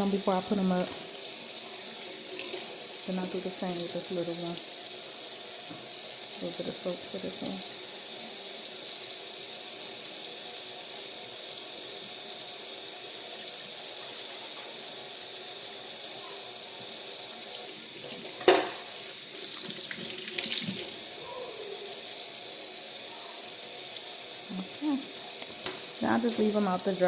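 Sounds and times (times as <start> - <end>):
comb being rinsed: 0.0 - 27.0
tap water running into sink: 0.0 - 27.0.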